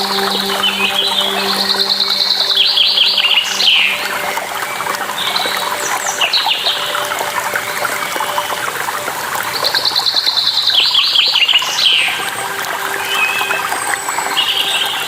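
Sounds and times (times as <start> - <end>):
running water: 0.0 - 15.0
songbirds chirping and calling: 0.0 - 15.0.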